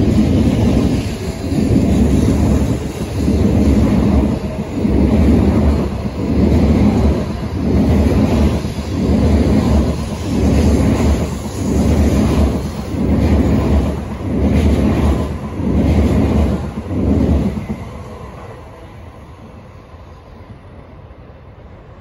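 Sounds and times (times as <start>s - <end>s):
high-speed train rumbling past: 0.0s - 22.0s.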